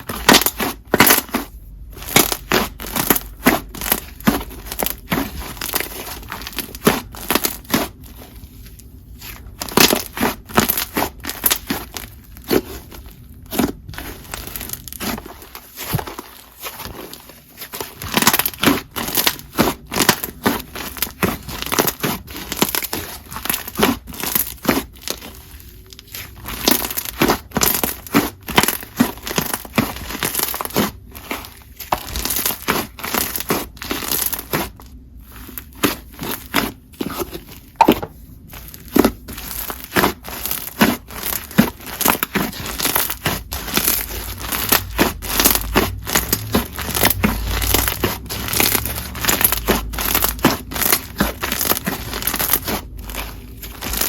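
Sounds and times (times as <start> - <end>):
slime crackling and popping: 0.0 - 54.0.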